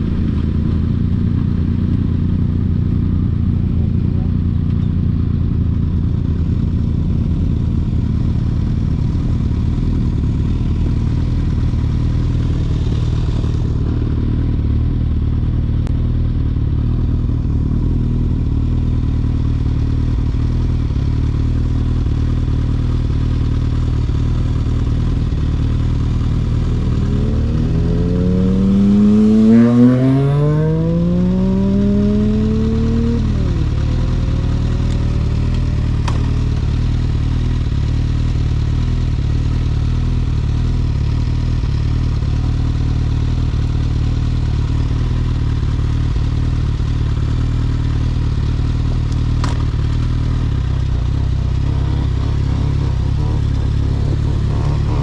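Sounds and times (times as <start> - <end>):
motorcycle accelerating through gears: 0.0 - 55.0
motorcycle engine drone: 0.0 - 55.0.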